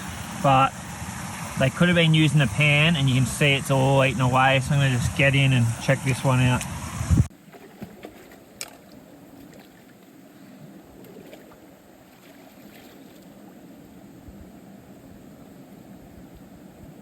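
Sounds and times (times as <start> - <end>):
underwater creek wash: 0.0 - 17.0.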